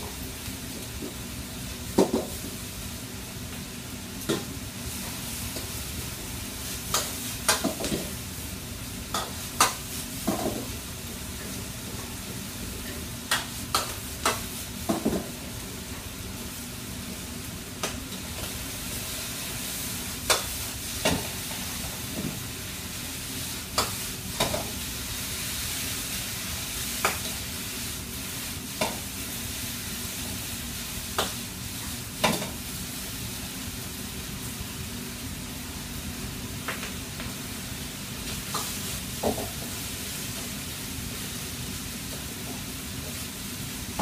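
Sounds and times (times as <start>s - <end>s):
food sizzling in woks: 0.0s - 44.0s.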